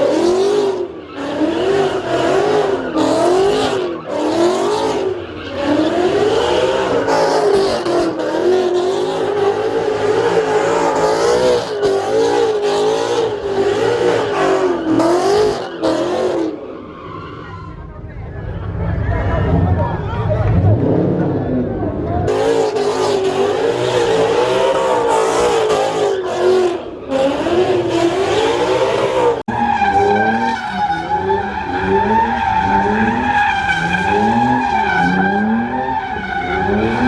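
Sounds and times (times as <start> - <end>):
car engine at high revs: 0.0 - 16.6, 20.4 - 37.0
tires squealing: 0.0 - 37.0.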